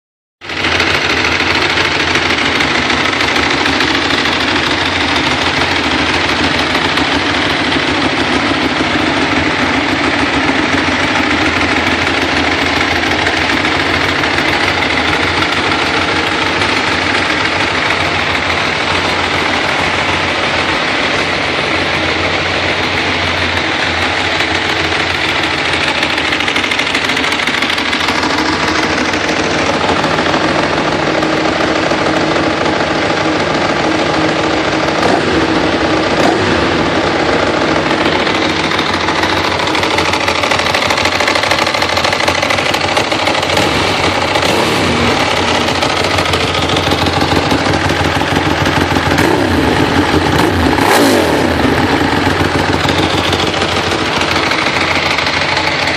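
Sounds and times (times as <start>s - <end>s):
motorcycle engine running: 0.4s - 55.9s.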